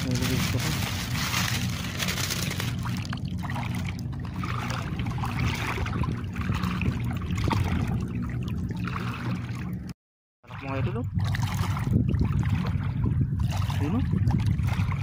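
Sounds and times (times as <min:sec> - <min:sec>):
low hum: 0:00.0 - 0:15.0
shallow water sloshing: 0:00.0 - 0:15.0.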